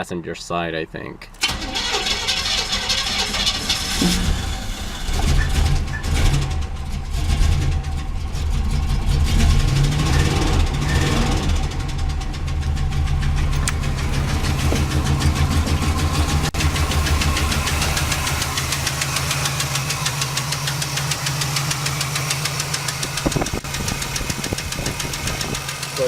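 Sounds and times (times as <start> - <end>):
engine running with fast ticking: 1.4 - 26.0.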